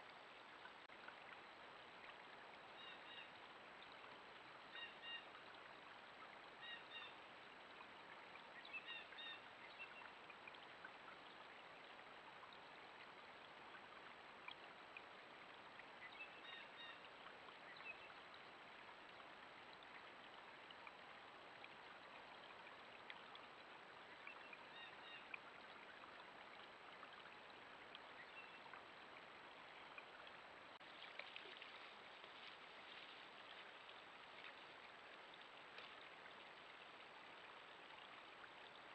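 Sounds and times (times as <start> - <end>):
faint microphone hiss: 0.0 - 38.9.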